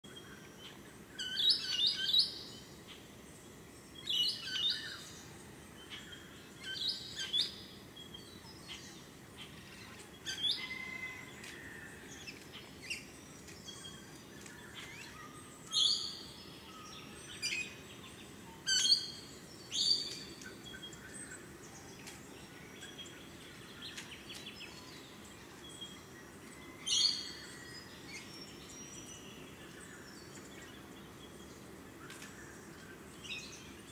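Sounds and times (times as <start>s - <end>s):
birds chirping: 0.0s - 33.9s
faint low background noise: 0.0s - 33.9s.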